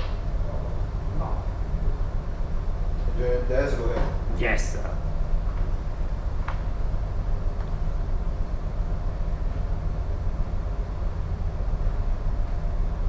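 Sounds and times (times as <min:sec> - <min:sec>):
ship machinery humming: 0:00.0 - 0:13.0.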